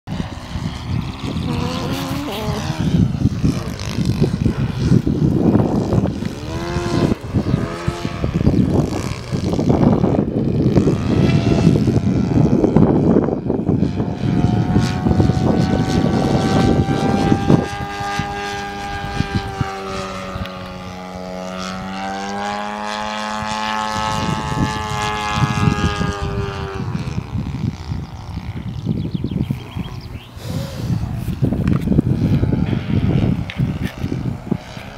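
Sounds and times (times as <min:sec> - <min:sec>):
model plane engine: 0:00.1 - 0:34.9
wind buffeting microphone: 0:00.1 - 0:34.9.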